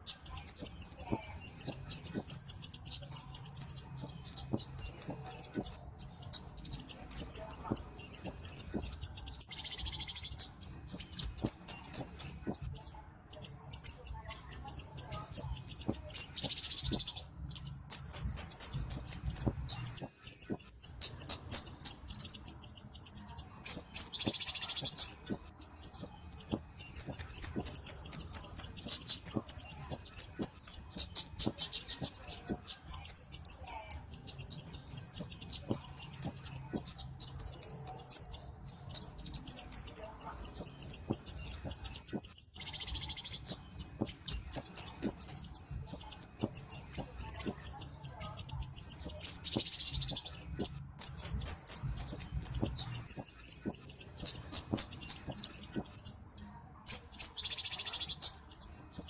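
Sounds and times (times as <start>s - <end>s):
bird ticking calls: 0.0s - 59.0s.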